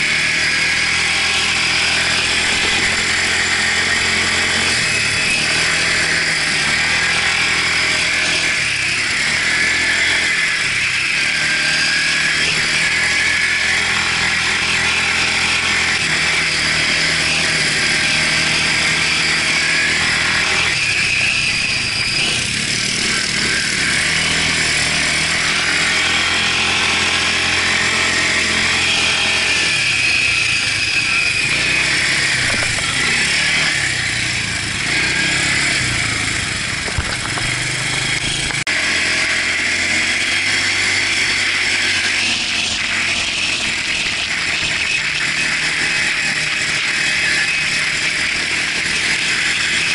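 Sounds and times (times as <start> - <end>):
quad bike engine running: 0.0 - 49.9.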